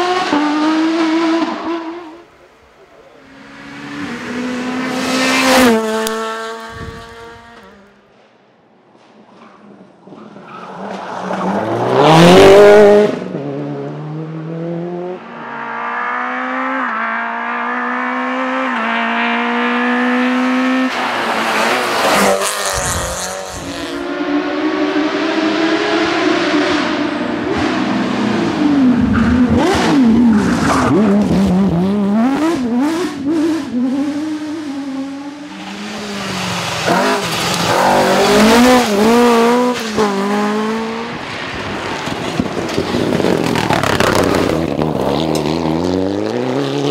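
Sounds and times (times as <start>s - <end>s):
rally cars passing at speed: 0.0s - 46.9s.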